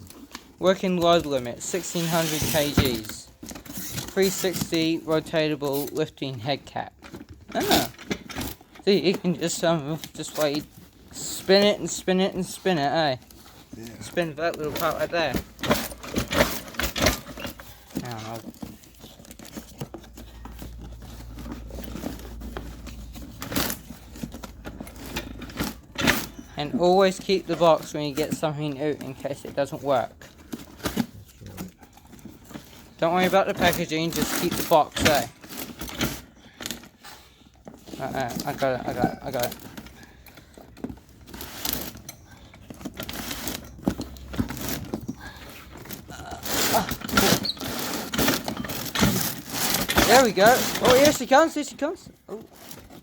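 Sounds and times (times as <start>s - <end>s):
packaging rustling and crinkling: 0.0s - 53.0s.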